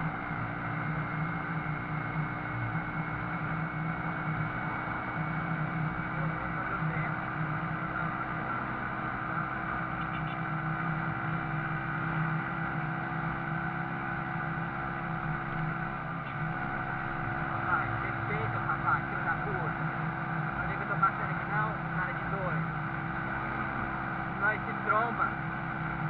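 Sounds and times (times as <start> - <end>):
motorcycle engine running steadily: 0.0 - 26.0.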